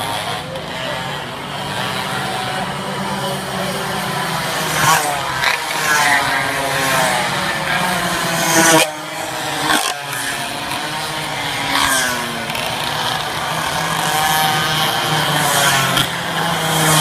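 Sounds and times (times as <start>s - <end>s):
minibike engines buzzing past: 0.0s - 17.0s.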